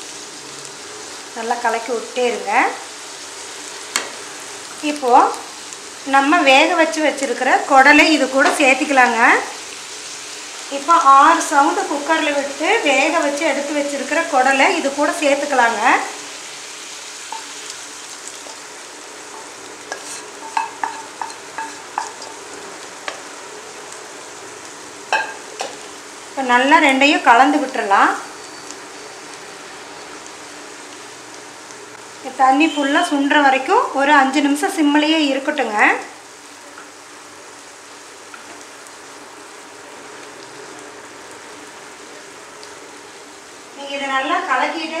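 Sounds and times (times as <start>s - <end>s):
food sizzling in a frying pan: 0.0s - 45.0s.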